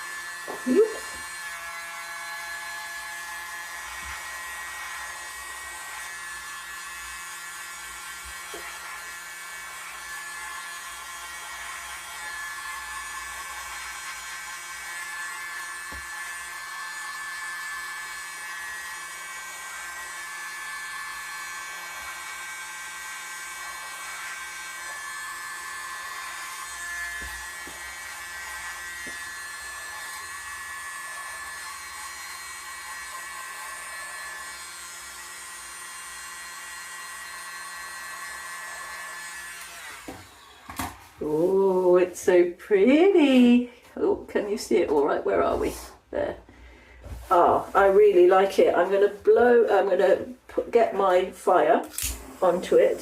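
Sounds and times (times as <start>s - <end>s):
electric air blower whining: 0.0s - 43.8s, 51.9s - 53.0s.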